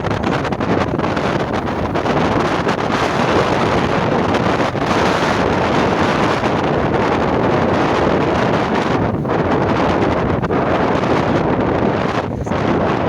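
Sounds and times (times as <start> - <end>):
heavy surf: 0.0 - 13.0
wind buffeting microphone: 0.0 - 13.0.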